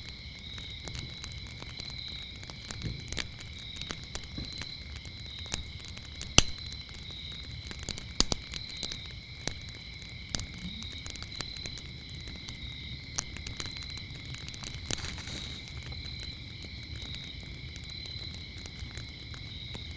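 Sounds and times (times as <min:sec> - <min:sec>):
crickets chirping: 0:00.0 - 0:19.9
wood fire crackling: 0:00.0 - 0:19.9.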